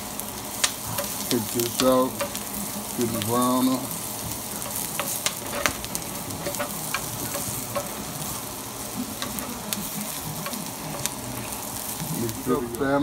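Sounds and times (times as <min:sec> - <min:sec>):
onions sizzling in oil: 0:00.0 - 0:13.0
spatula stirring in pan: 0:00.2 - 0:13.0.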